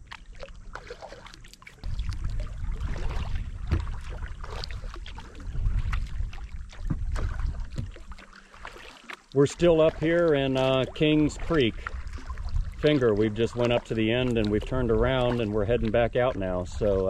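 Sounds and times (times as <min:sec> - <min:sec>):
paddle blades splashing: 0:00.0 - 0:17.0
water trickling: 0:00.0 - 0:17.0.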